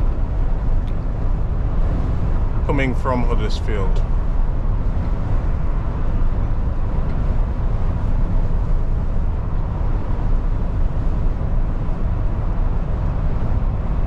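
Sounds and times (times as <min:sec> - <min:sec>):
lorry engine and tyres rumbling: 0:00.0 - 0:14.0.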